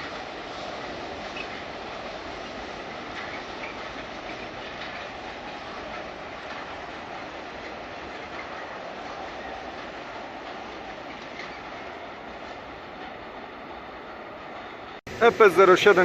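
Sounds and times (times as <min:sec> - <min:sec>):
clicking at rail joints: 0:00.0 - 0:15.0
train wheels rumbling on rails: 0:00.0 - 0:16.0.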